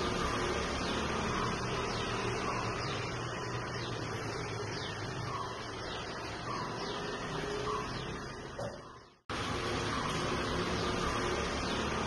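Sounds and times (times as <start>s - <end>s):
outdoor hum and hiss: 0.0s - 12.0s.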